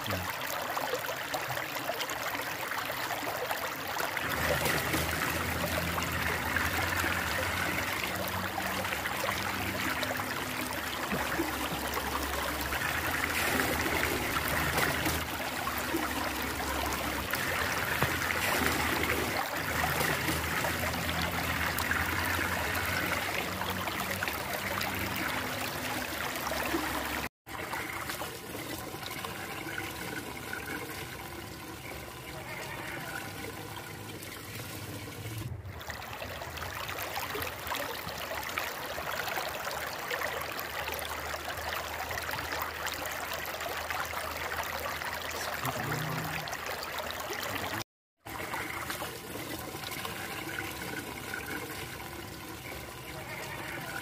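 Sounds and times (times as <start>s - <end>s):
water swirling and draining: 0.0s - 54.0s.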